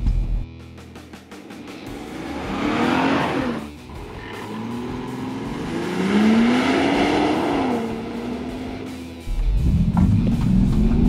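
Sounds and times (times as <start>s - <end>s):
car engine accelerating hard: 1.2s - 11.0s.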